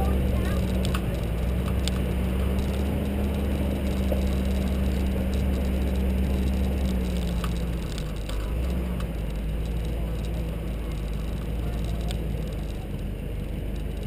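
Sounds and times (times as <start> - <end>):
car engine running steadily: 0.0 - 14.0
tyre and road rumble: 0.0 - 14.0.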